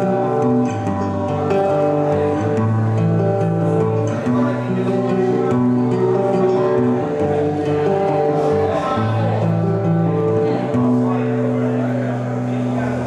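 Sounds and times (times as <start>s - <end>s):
guitar chords: 0.0s - 13.0s.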